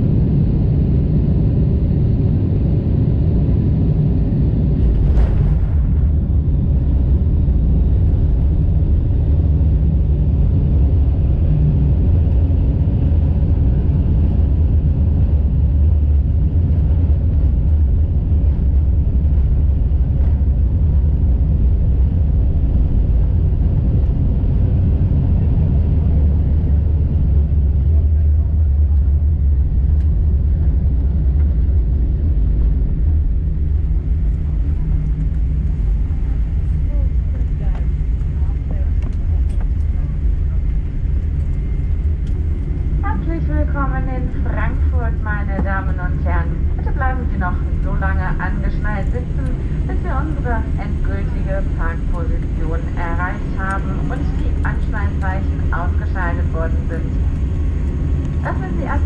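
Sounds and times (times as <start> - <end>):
airplane cabin rumble while taxiing: 0.0 - 59.0.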